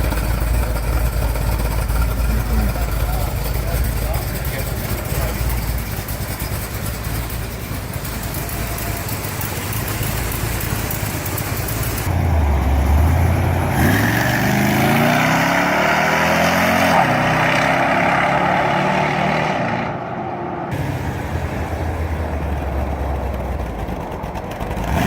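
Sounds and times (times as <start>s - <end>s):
car engine rumbling and revving: 0.0s - 25.0s.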